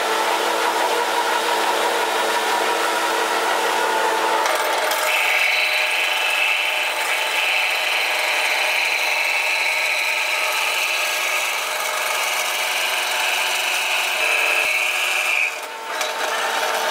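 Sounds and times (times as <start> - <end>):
pelletizer machine whine: 0.0 - 16.9.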